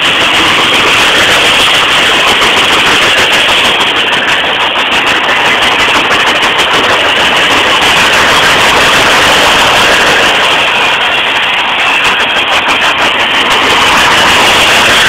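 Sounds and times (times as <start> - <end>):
freight train rumbling: 0.0 - 15.0
wheels clattering on rails: 0.0 - 15.0.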